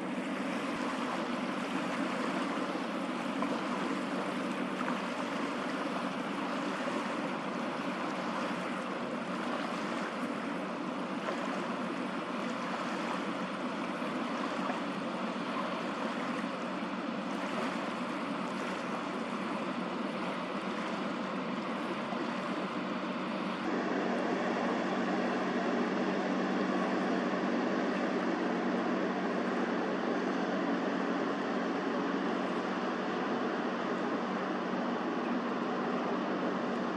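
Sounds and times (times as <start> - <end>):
water rushing around a boat: 0.0 - 36.9.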